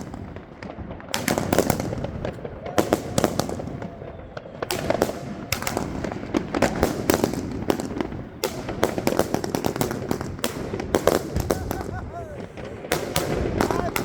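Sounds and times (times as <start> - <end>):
firework bangs and cracks: 0.0 - 14.0.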